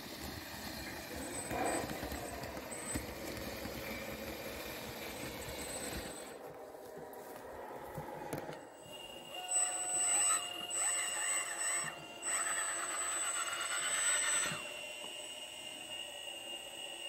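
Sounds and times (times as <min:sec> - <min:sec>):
hydraulic pump whining: 0:00.0 - 0:06.4, 0:08.4 - 0:17.0.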